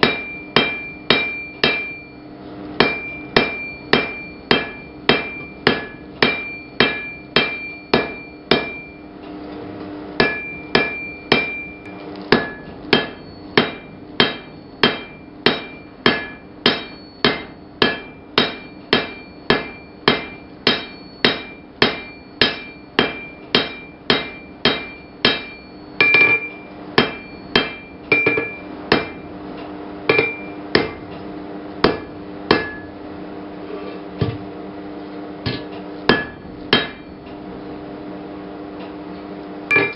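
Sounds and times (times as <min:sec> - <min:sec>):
hammer forging steel on anvil: 0:00.0 - 0:02.2, 0:02.8 - 0:09.1, 0:10.2 - 0:33.0, 0:35.4 - 0:37.4.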